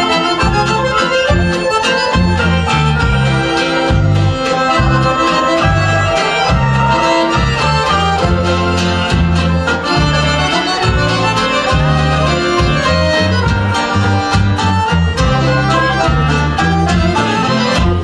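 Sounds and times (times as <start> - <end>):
accordion: 0.0 - 18.0
bass line: 0.0 - 18.0
drum beats: 0.0 - 18.0
fiddle: 0.0 - 18.0
guitars: 0.0 - 18.0
strummed banjo: 0.0 - 18.0.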